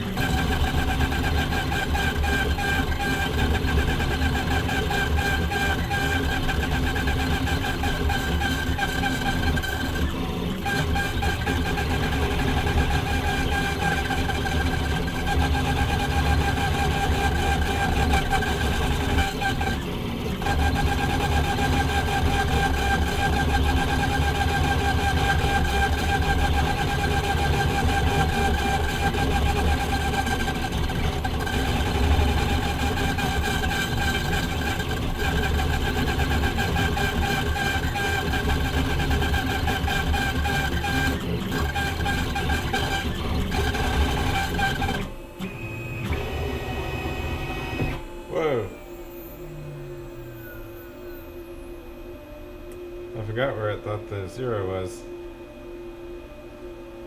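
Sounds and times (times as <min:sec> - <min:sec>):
router spindle whine: 0:00.0 - 0:57.0.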